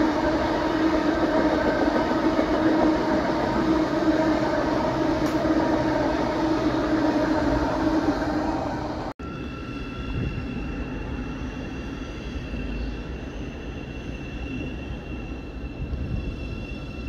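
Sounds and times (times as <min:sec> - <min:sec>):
high whine of train: 0:00.0 - 0:17.0
train rumbling past: 0:00.0 - 0:17.0.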